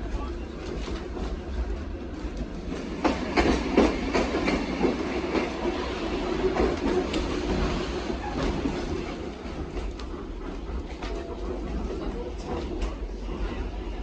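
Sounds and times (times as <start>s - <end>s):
train low rumble: 0.0s - 14.0s
train wheels clicking over rail joints: 0.6s - 13.8s.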